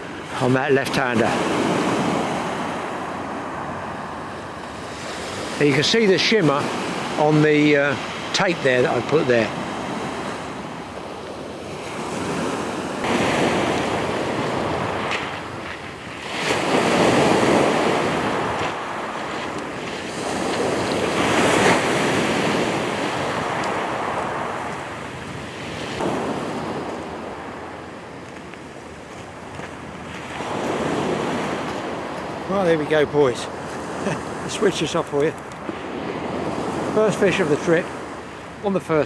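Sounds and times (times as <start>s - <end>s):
wind buffeting microphone: 0.0s - 38.8s
surf breaking on shingle beach: 0.0s - 39.0s.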